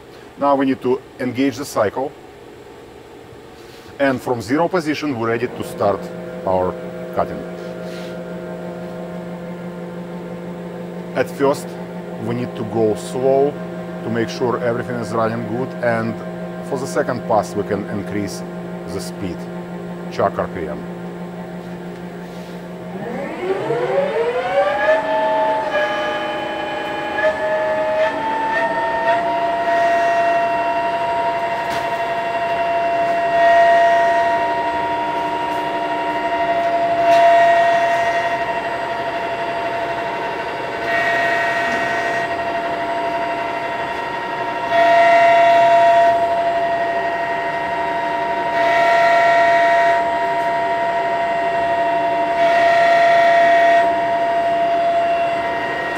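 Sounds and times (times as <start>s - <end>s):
lathe spindle whine: 4.0s - 55.9s
lathe tool cutting steel pipe: 5.1s - 20.8s, 22.4s - 55.9s.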